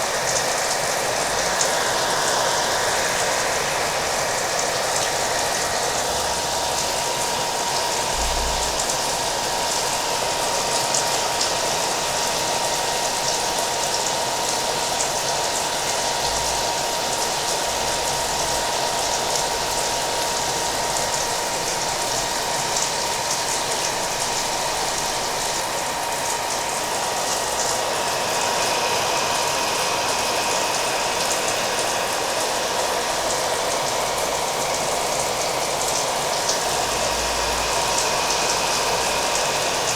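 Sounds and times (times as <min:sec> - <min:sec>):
hair dryer whining: 0:00.0 - 0:39.9.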